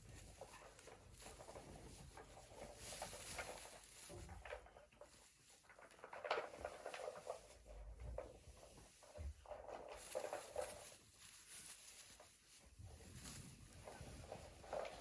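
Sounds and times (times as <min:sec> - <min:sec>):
faint rustling with taps: 0:00.0 - 0:15.0.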